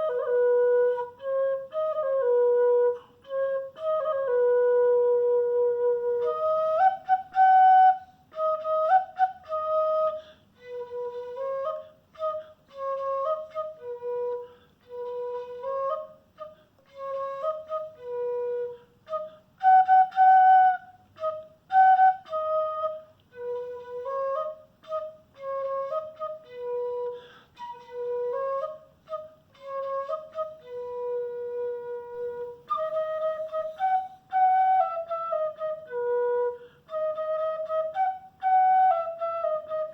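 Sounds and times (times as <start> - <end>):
small flute melody: 0.0 - 39.9.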